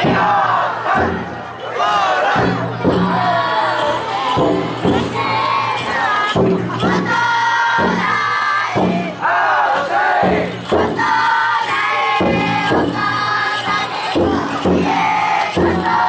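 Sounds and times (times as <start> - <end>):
crowd chanting and shouting: 0.0 - 16.0
drum beats: 0.0 - 16.0.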